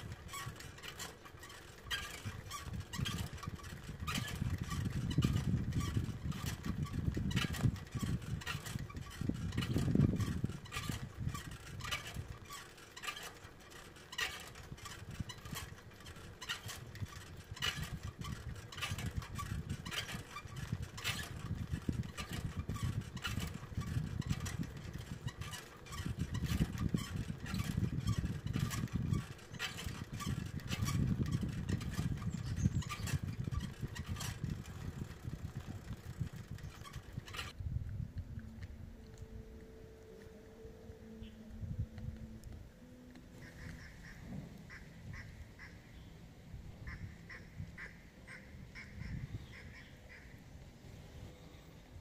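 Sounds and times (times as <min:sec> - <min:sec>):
low uneven rumble: 0:00.0 - 0:52.0.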